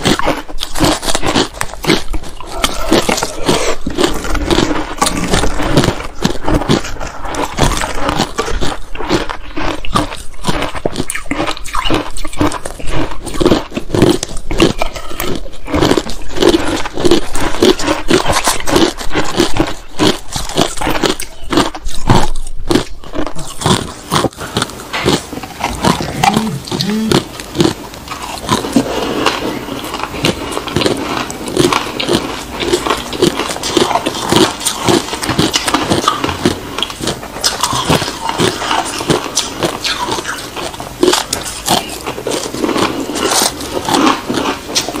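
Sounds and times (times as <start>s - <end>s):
ice crunching and chewing: 0.0s - 45.0s.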